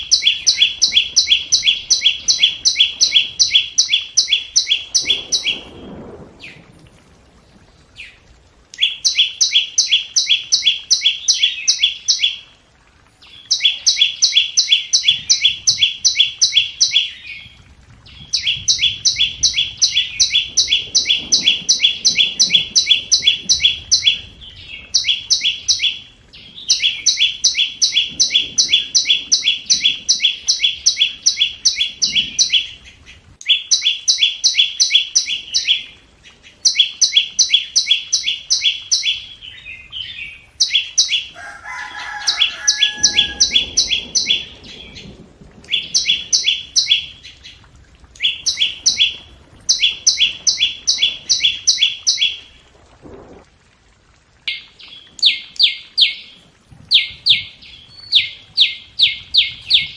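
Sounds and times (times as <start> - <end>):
bird high ticking calls: 0.0 - 5.9, 8.0 - 12.5, 13.2 - 52.6, 54.4 - 59.9.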